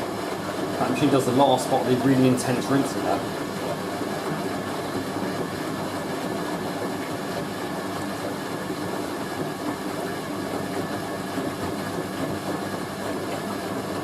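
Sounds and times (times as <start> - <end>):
washing machine rumbling: 0.0 - 14.0.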